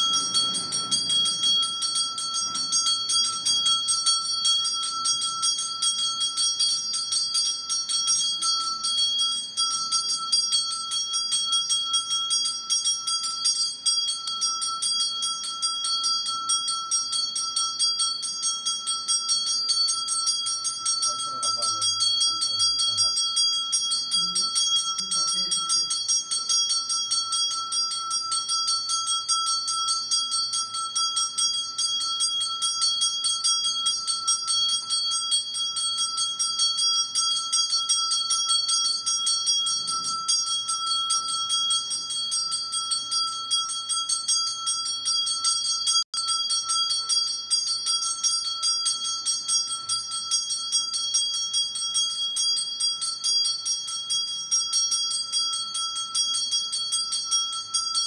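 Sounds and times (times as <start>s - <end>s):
small hand bell ringing: 0.0s - 58.0s.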